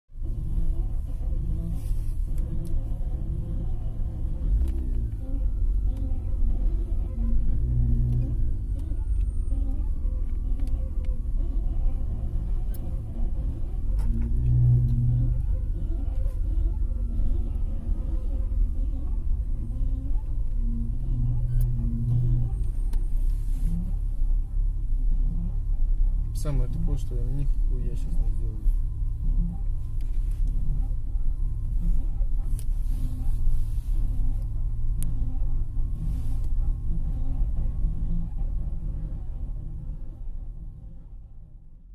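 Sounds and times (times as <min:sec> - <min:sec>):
car engine and road rumble: 0:00.0 - 0:41.9
low hum: 0:00.1 - 0:41.9.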